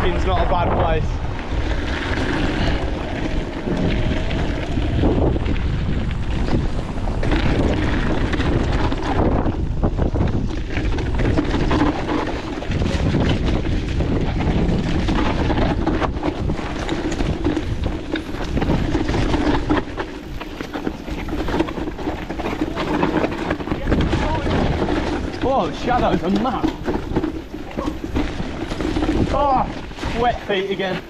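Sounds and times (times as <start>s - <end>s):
bike knocks and rattles: 0.0s - 31.0s
tyres rumbling on dirt: 0.0s - 31.0s
wind buffeting microphone: 0.0s - 31.0s.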